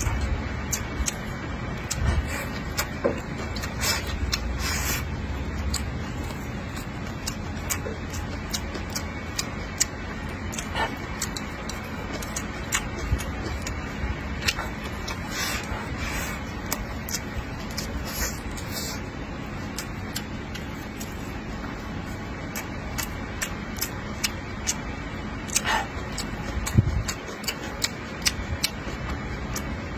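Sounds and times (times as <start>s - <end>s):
chewing with wet mouth clicks: 0.0s - 29.9s
low background hum: 0.0s - 29.9s.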